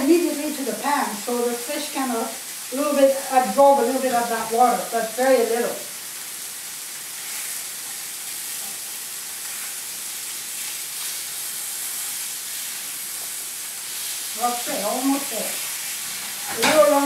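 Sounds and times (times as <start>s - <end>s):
fish sizzling in frying pan: 0.0s - 17.0s.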